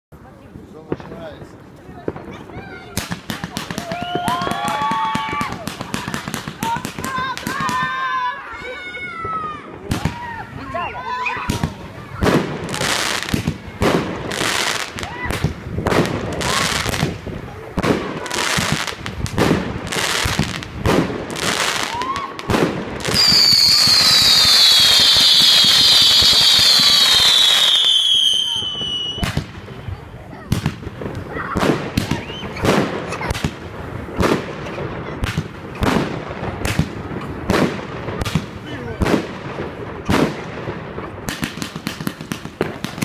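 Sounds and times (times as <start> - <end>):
fireworks bangs with crackling: 0.3 - 43.0.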